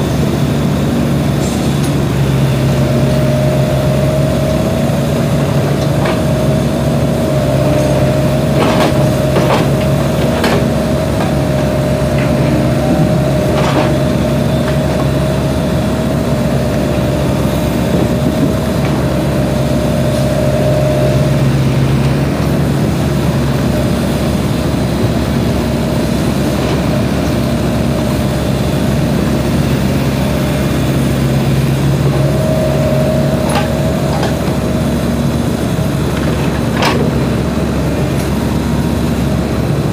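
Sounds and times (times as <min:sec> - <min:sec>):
excavator diesel engine running: 0:00.0 - 0:39.9
steady whine: 0:00.0 - 0:39.9.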